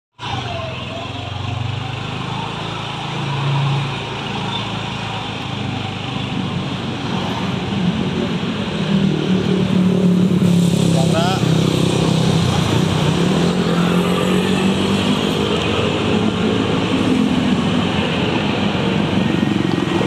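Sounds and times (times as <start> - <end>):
road noise: 0.1 - 20.0.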